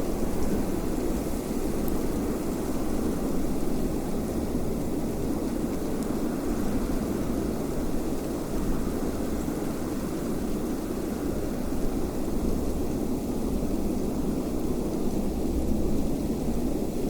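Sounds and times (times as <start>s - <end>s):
steady wind: 0.0s - 17.0s.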